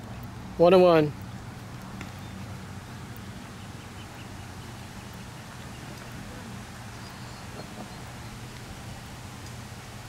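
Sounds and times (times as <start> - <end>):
faint distant sounds: 0.0 - 10.0.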